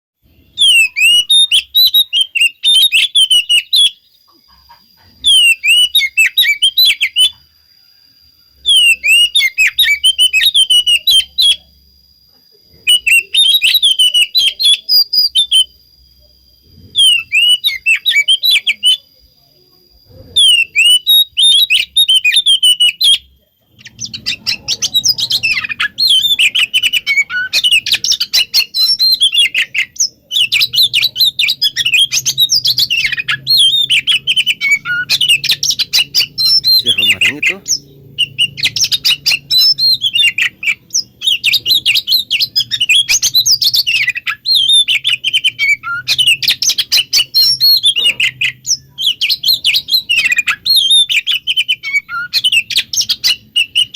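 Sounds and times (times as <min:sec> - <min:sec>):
bird singing high chirps: 0:00.2 - 0:11.7, 0:12.7 - 0:53.9.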